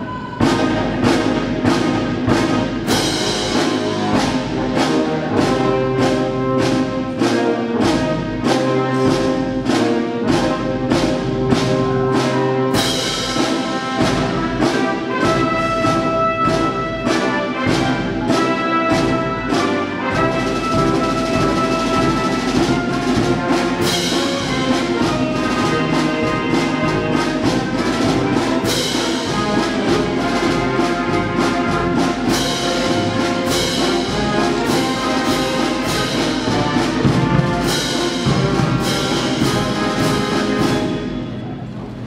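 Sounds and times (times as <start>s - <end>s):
marching band playing: 0.0s - 42.0s.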